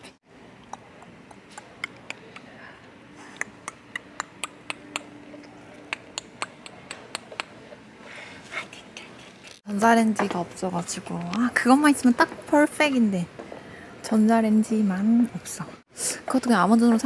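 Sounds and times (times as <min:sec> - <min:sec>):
faint indoor background noise: 0:00.0 - 0:17.0.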